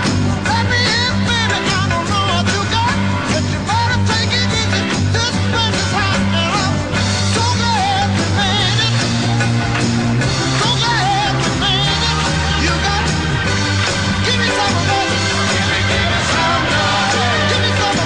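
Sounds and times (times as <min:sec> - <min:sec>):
steady bass notes: 0:00.0 - 0:18.0.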